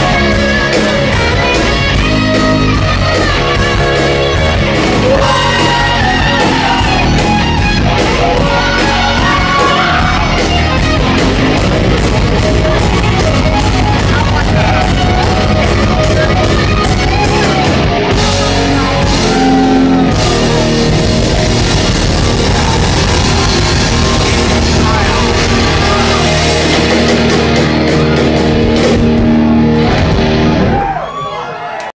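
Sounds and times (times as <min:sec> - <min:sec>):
rock band playing: 0:00.0 - 0:31.4.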